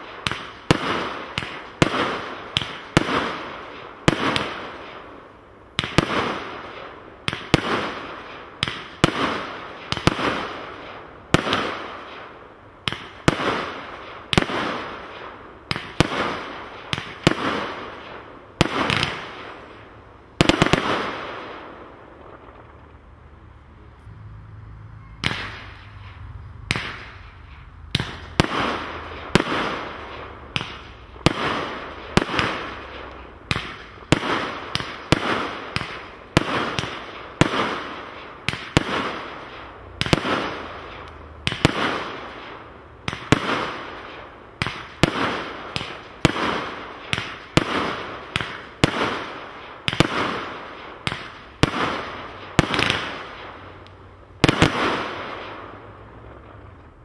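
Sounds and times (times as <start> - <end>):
firework bangs: 0.0 - 22.8, 25.2 - 53.8, 54.4 - 57.0.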